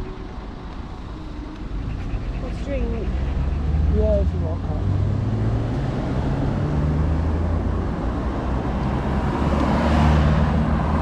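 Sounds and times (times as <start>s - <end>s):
vehicle engines running: 0.0s - 11.0s
vehicle passing: 0.0s - 11.0s.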